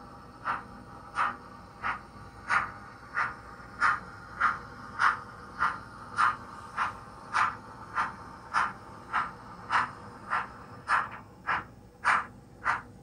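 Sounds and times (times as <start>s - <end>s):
model steam locomotive chuffing: 0.0s - 13.0s.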